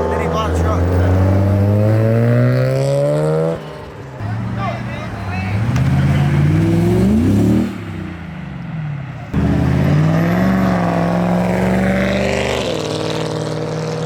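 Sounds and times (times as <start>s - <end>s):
engine holding high revs: 0.0s - 8.2s, 9.3s - 14.0s
car engines revving: 0.0s - 14.0s.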